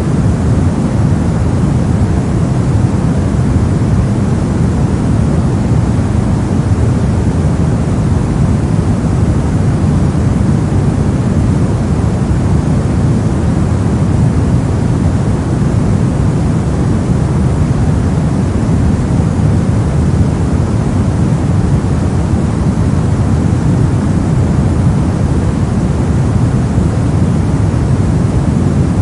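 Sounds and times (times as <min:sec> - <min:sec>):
brown noise hiss: 0:00.0 - 0:29.0.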